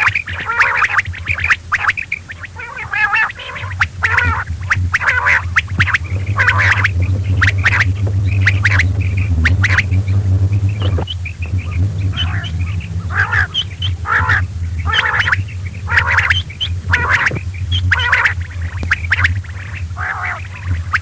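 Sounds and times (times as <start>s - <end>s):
low steady hum: 0.0s - 21.0s
quail calling: 0.0s - 21.0s.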